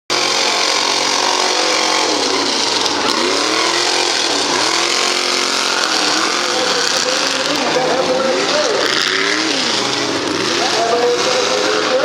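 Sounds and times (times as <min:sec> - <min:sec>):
truck engine revving: 0:00.1 - 0:12.0.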